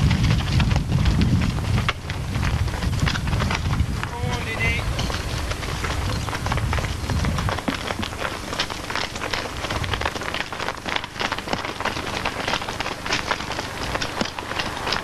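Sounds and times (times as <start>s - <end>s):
cow hooves on paved road: 0.0s - 15.0s.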